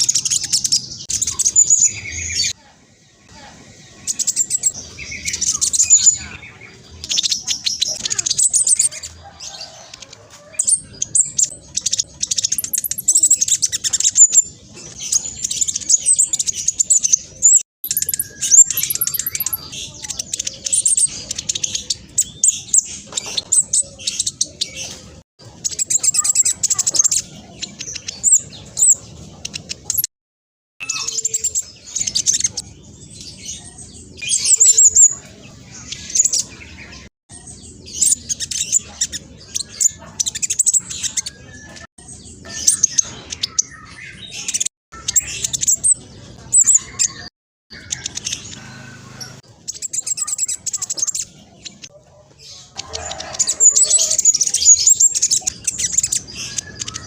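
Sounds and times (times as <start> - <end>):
bird chirping and trilling: 0.0 - 30.1, 30.8 - 57.0.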